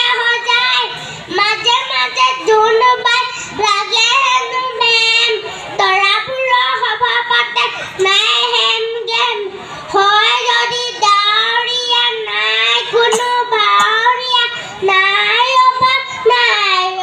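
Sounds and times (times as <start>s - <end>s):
boy singing unaccompanied: 0.0s - 17.0s.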